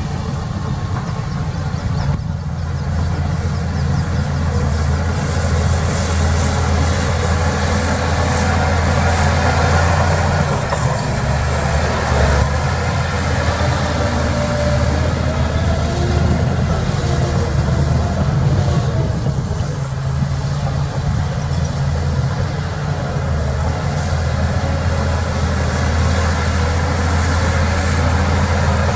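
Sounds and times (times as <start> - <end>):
heavy diesel engine running: 0.0 - 28.9.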